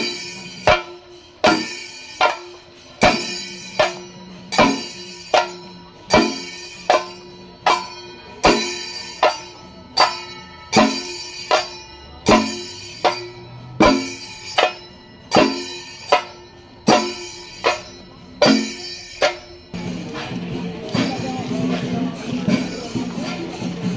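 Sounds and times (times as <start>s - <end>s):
ringing metallic percussion strokes: 0.0s - 23.9s.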